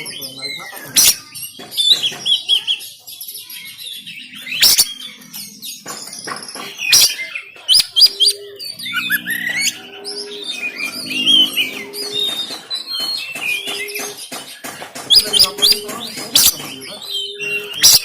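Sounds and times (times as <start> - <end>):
bird singing chirps and whistles: 0.0 - 18.0.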